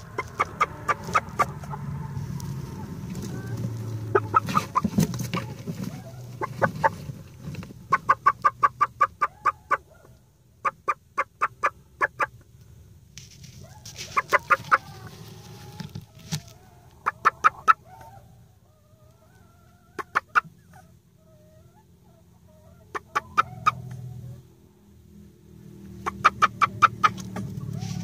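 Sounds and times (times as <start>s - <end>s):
hen clucking: 0.0s - 12.5s, 13.6s - 24.4s, 25.9s - 28.0s.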